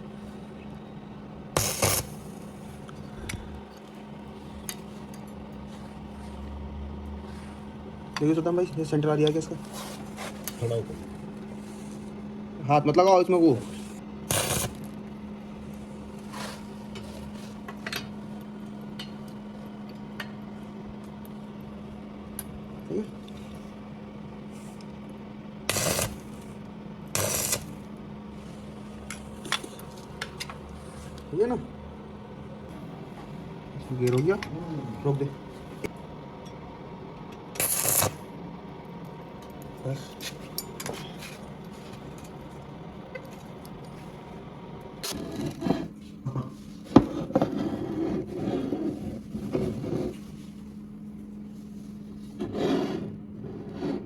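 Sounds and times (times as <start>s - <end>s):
steady electric hum: 0.0s - 54.0s.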